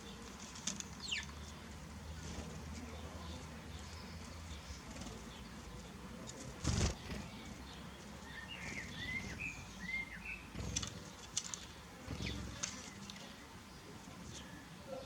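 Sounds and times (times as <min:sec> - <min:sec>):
outdoor background noise: 0:00.0 - 0:15.0
small birds chirping: 0:00.0 - 0:15.0.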